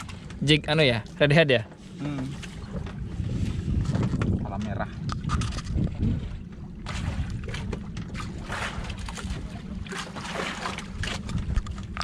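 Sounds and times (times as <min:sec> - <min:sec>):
water sloshing against boat hull: 0:00.0 - 0:12.0
wind buffeting microphone: 0:02.3 - 0:12.0.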